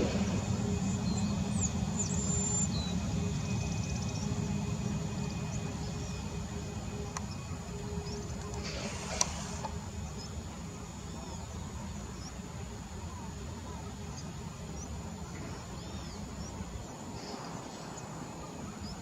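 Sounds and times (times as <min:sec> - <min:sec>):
birds chirping: 0:00.0 - 0:19.0
jet engines rumbling: 0:00.0 - 0:19.0.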